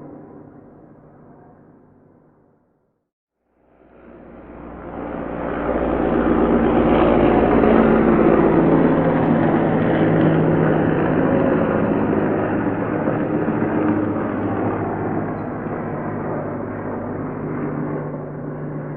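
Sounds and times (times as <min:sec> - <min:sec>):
helicopter rotor and engine: 0:00.0 - 0:02.1, 0:03.6 - 0:18.9.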